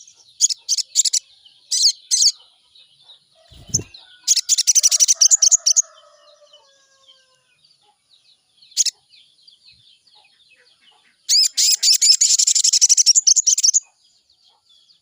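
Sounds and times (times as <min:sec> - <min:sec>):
bird singing high rapid chirps: 0:00.0 - 0:07.2, 0:08.6 - 0:14.2
faint low drawn-out calls: 0:00.0 - 0:15.0.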